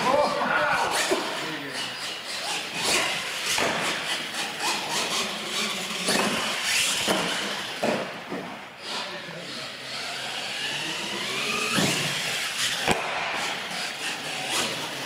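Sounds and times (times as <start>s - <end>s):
toy truck motor and tyres: 0.0s - 8.0s, 8.8s - 15.0s.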